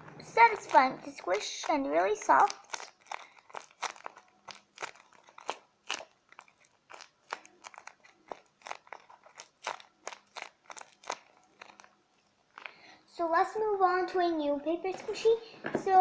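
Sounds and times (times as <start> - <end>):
paper crinkling and crunching: 0.0 - 12.8.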